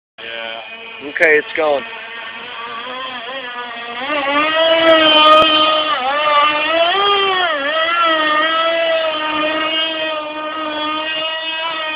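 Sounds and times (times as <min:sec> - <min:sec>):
small engine whining at high revs: 0:00.2 - 0:11.9.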